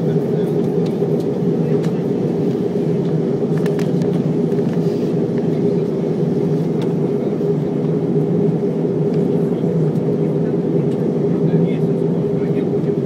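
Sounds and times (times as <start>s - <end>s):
aircraft cabin drone: 0.0s - 13.0s.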